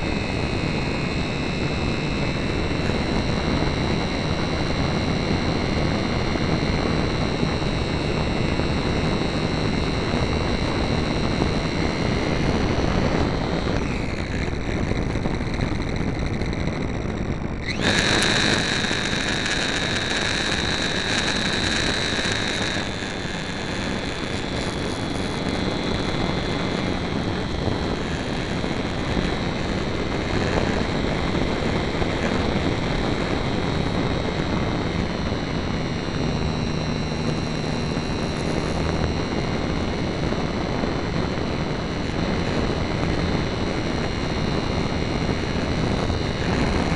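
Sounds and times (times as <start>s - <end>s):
electric motor and propeller whining: 0.0s - 46.9s
wind on microphone: 0.0s - 46.9s.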